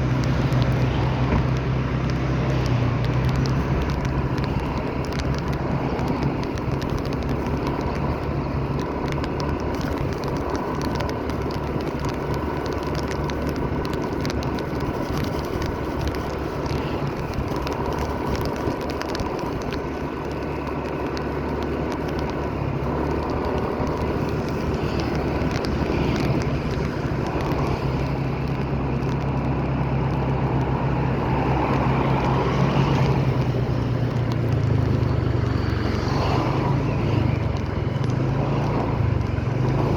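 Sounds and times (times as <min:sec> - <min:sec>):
low engine hum: 0:00.0 - 0:39.9
road noise: 0:00.0 - 0:39.9.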